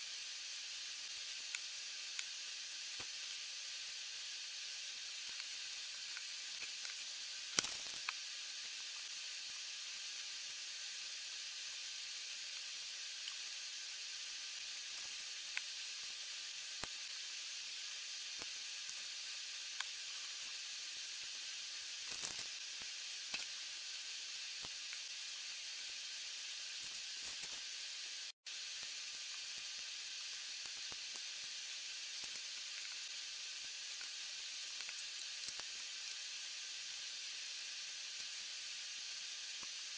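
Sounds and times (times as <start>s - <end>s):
recording hiss: 0.0s - 39.9s.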